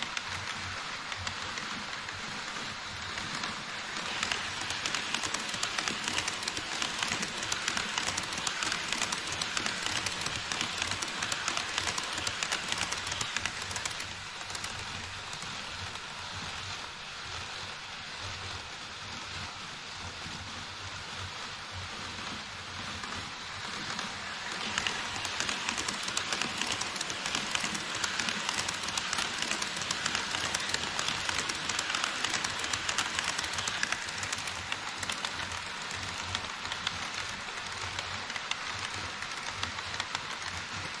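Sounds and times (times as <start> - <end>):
model train wheels clicking on rail joints: 0.0 - 41.0.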